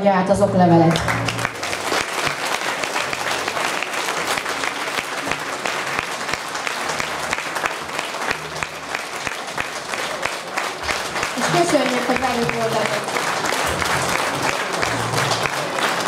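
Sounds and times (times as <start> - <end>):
crowd applauding: 0.8 - 16.0.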